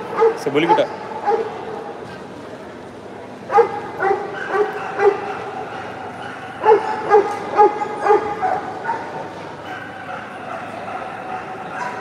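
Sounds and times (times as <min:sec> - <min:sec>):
dog barking: 0:00.1 - 0:01.6, 0:03.5 - 0:12.0.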